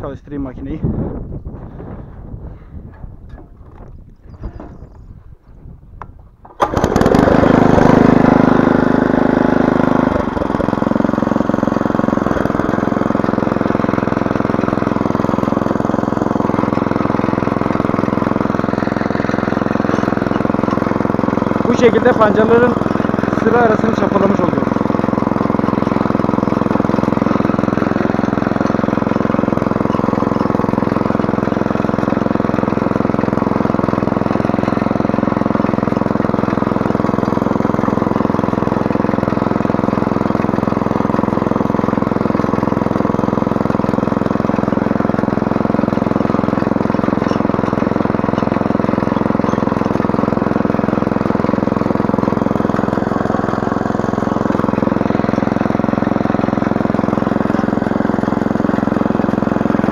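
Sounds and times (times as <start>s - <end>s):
rotary tiller engine running: 1.5s - 59.9s.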